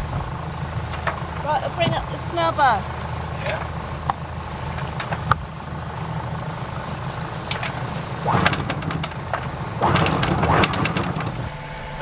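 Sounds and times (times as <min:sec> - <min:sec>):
diesel engine idling: 0:00.0 - 0:11.5
sharp clatters of anchor line: 0:00.3 - 0:11.5.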